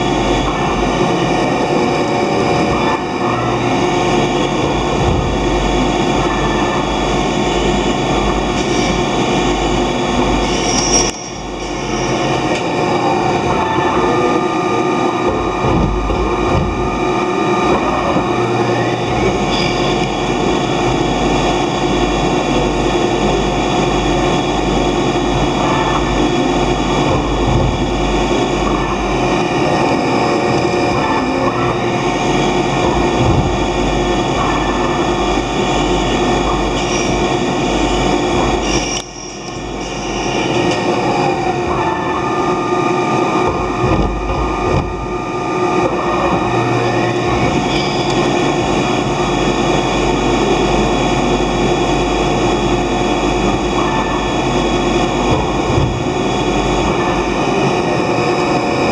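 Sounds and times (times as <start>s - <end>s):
lathe machining: 0.0s - 58.9s.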